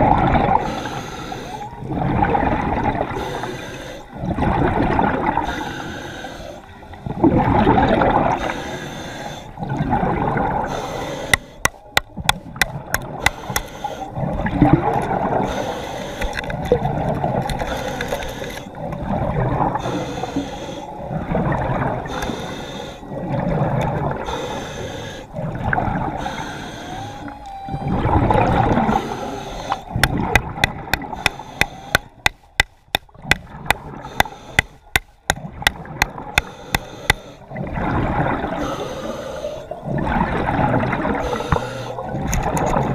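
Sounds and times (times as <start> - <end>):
underwater water noise: 0.0 - 42.9.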